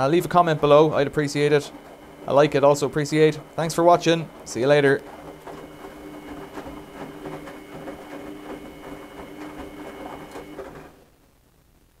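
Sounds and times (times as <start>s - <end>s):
clothes and water sloshing: 0.0s - 11.0s
washing machine motor hum: 0.0s - 11.2s.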